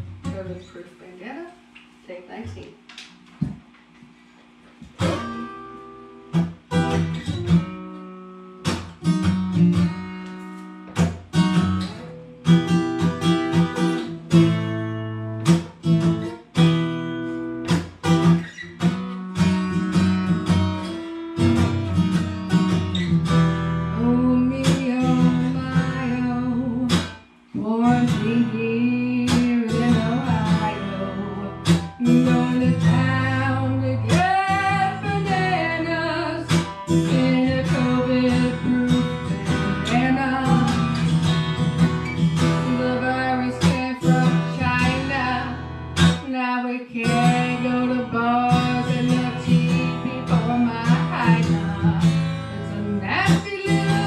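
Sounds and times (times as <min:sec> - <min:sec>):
acoustic guitar strumming: 0:00.0 - 0:01.4, 0:04.8 - 0:54.0.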